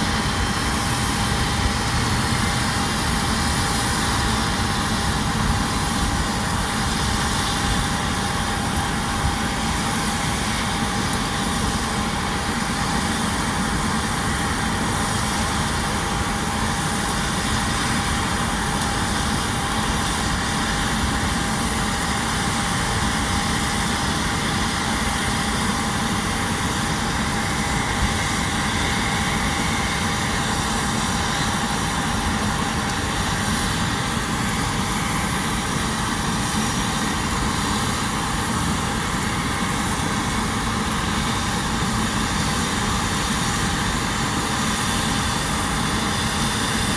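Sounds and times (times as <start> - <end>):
aircraft engine running: 0.0 - 46.9.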